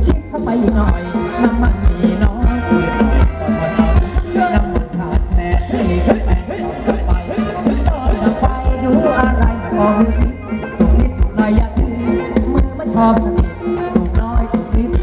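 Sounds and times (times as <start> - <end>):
circle-dance band music: 0.6 - 15.0.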